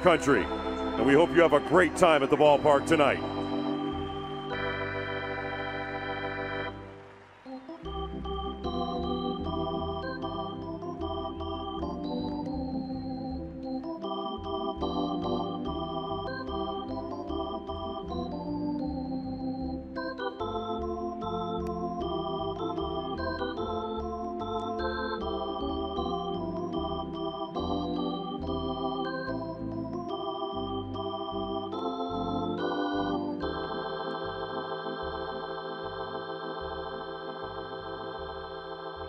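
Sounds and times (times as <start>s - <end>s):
ballpark organ playing: 0.0s - 39.0s.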